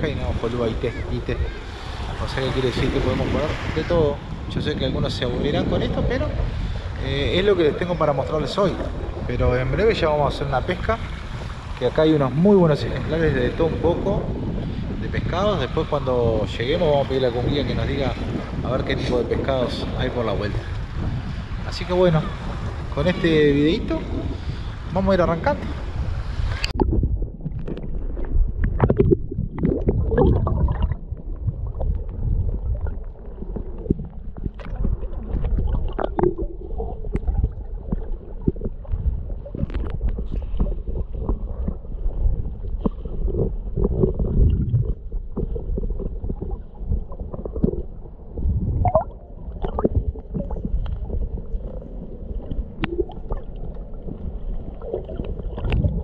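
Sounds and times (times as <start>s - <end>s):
underwater rumbling and gurgling: 0.0s - 56.0s.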